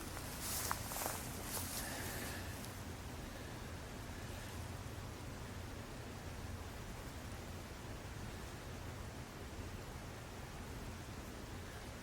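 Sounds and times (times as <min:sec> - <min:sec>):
low uneven rumble: 0:00.0 - 0:12.0
steady hiss of night ambience: 0:00.0 - 0:12.0.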